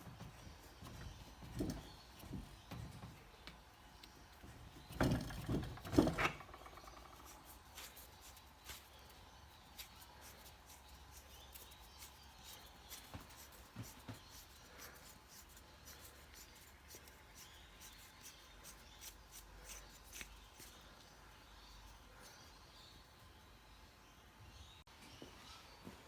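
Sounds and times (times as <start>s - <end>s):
light rubbing: 0.0s - 23.1s.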